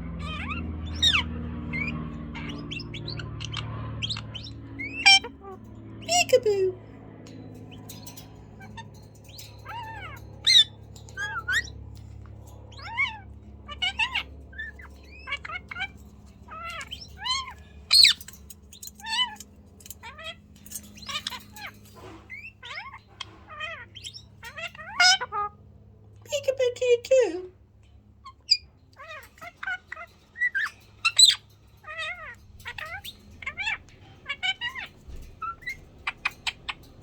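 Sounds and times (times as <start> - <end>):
parakeet squawking and chirping: 0.0 - 26.9, 28.1 - 37.0.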